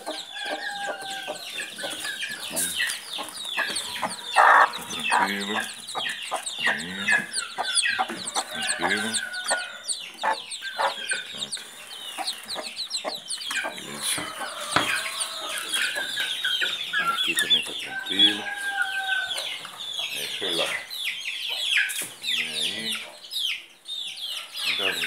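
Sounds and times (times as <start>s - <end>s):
chicks peeping: 0.0s - 25.0s
hen clucking: 0.0s - 25.0s.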